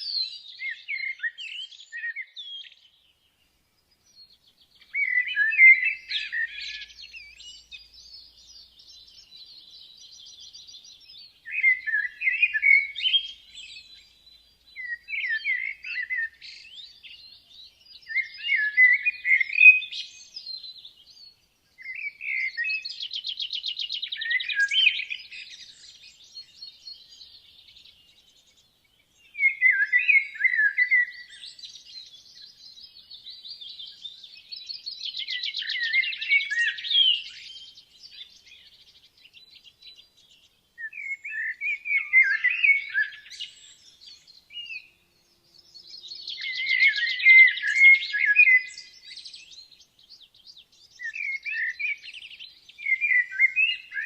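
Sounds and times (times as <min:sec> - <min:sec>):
birds chirping: 0:00.0 - 0:54.0
songbird song with trill: 0:00.0 - 0:54.0.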